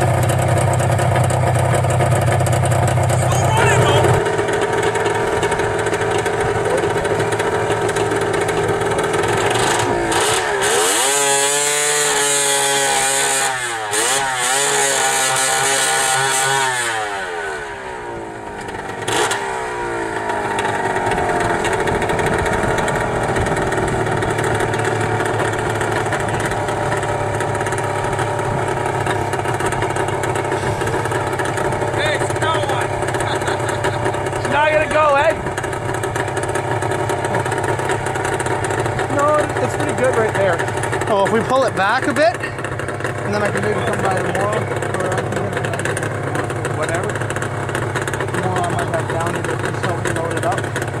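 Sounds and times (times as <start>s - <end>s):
snowmobile engine idling and revving: 0.0s - 51.0s.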